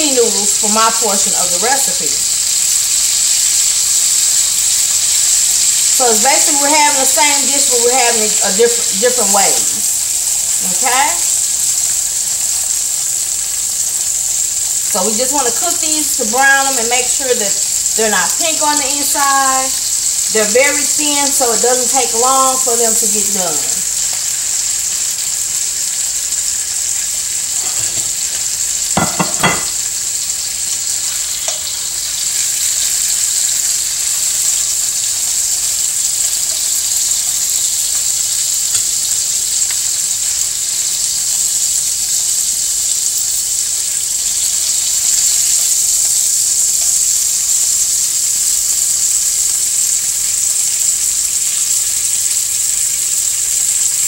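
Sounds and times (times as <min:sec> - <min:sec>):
chicken sizzling in a skillet: 0:00.0 - 0:54.0.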